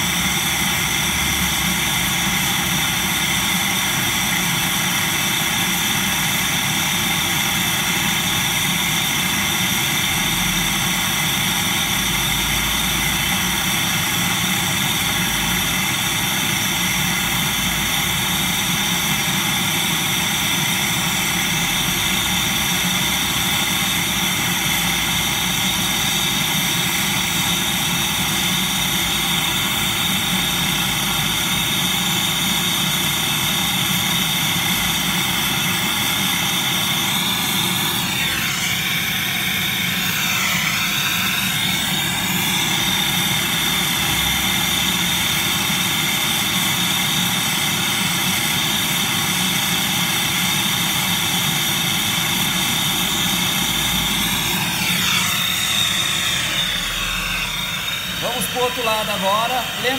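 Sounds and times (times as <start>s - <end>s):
brazing torch hissing: 0.0s - 59.9s.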